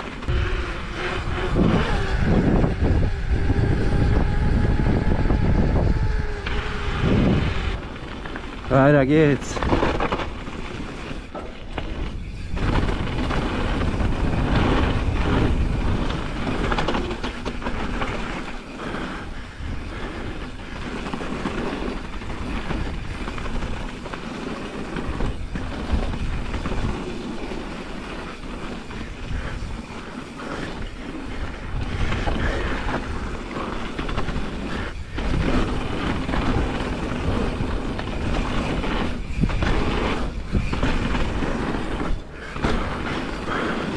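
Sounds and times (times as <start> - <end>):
bike tyres rolling over dirt: 0.0 - 43.9.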